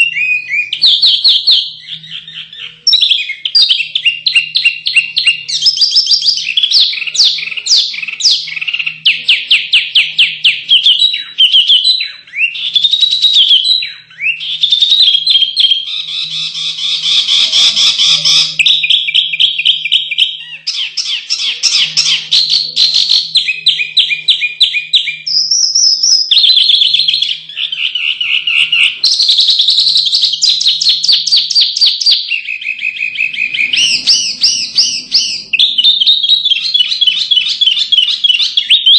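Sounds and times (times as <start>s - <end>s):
songbirds singing trills: 0.0s - 38.9s.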